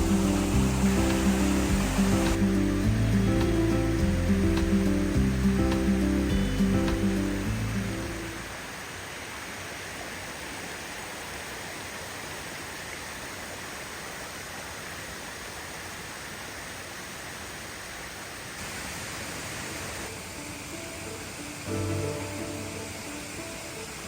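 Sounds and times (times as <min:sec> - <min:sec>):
river flowing: 0:00.0 - 0:24.0.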